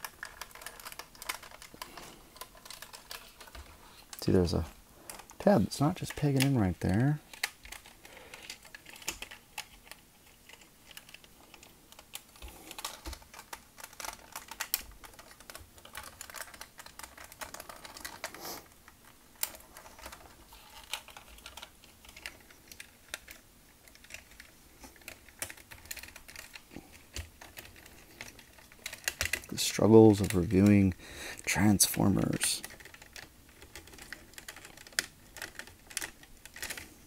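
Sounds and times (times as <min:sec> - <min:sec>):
plastic toy parts clicking: 0:00.0 - 0:04.2, 0:06.0 - 0:18.4, 0:19.4 - 0:30.8, 0:31.4 - 0:36.9.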